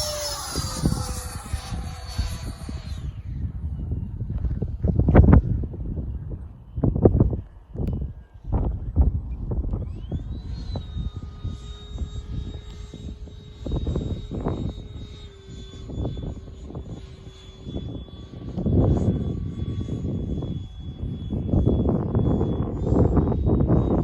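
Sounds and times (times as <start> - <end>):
electric ducted fans whining: 0.0 - 24.0
wind buffeting microphone: 0.0 - 24.0.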